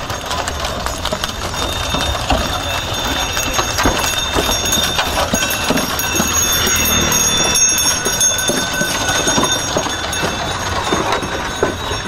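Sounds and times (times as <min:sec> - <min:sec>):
bullock bells ringing: 0:00.0 - 0:12.0
cart wheels rumbling: 0:00.0 - 0:12.0
hooves clopping: 0:00.0 - 0:12.0.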